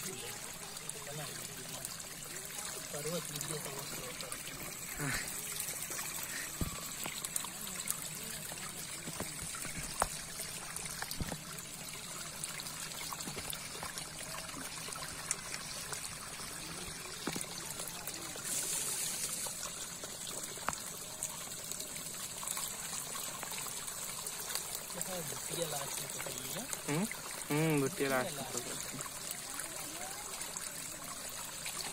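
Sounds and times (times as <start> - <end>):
water trickling and splashing: 0.0 - 31.9.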